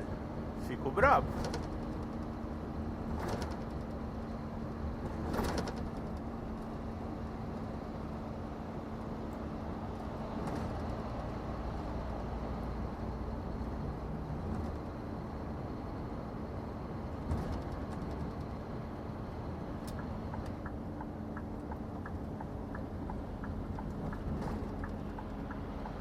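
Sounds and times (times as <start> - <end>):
rattle in truck cab: 0.0 - 26.0.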